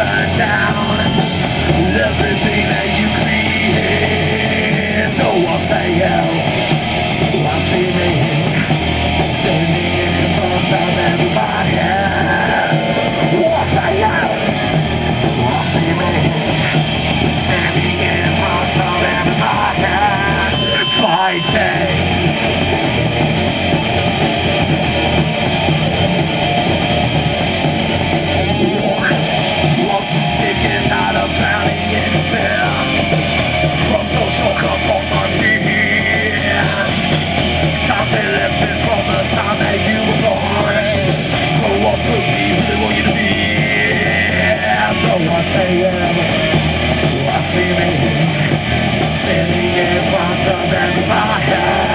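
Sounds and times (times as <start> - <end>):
person singing into a microphone: 0.0 - 22.8, 28.4 - 51.9
electric guitar: 0.0 - 51.9.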